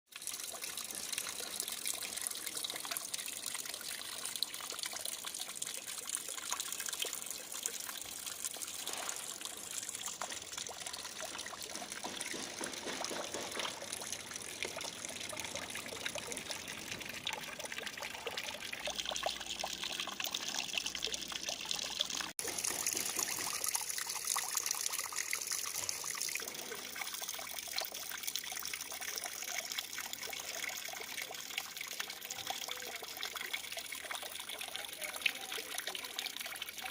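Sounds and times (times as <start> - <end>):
water fountain splashing: 0.1 - 36.9.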